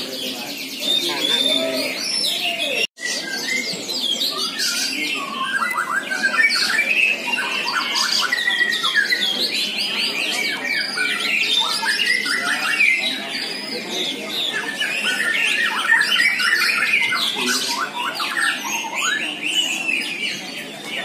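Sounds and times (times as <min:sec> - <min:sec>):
chorus of songbirds singing: 0:00.0 - 0:21.0.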